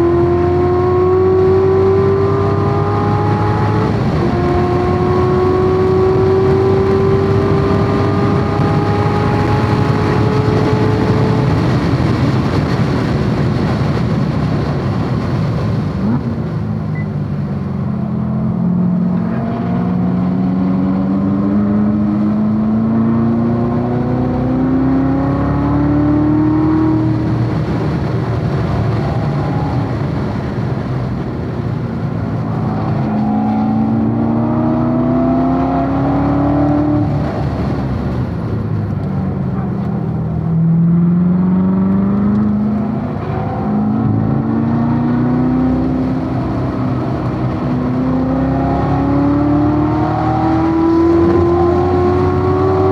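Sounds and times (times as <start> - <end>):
car engine at full throttle: 0.0 - 52.9
road and wind noise: 0.0 - 52.9.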